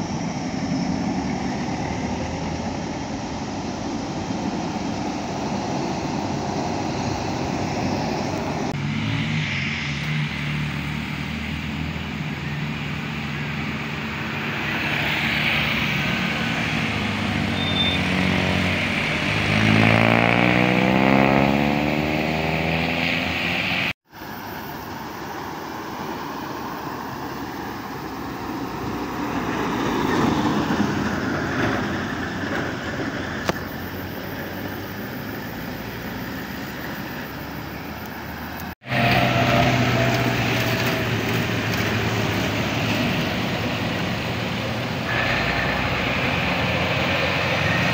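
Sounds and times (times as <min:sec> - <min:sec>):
heavy vehicle engines passing: 0:00.0 - 0:47.9.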